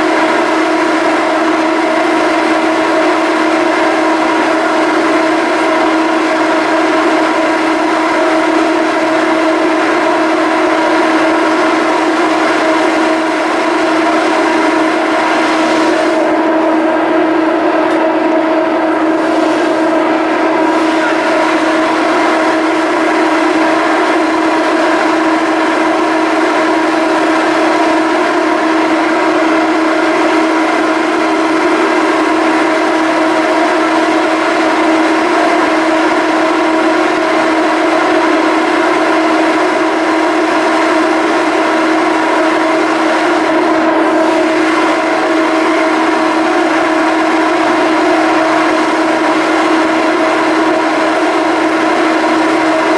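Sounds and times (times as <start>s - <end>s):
ferry machinery humming: 0.0s - 52.9s.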